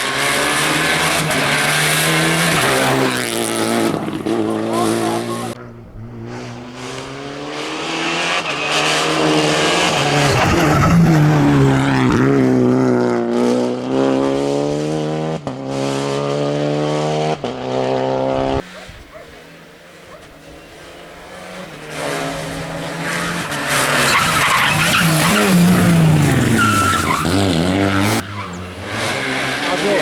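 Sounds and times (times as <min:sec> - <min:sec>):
rally car passing at full throttle: 0:00.0 - 0:30.0.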